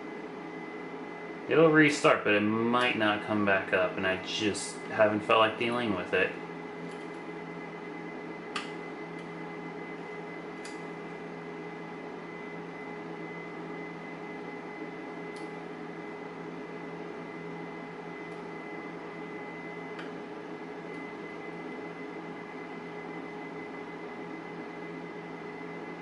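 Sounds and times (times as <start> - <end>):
cooling fan whirring: 0.0 - 26.0.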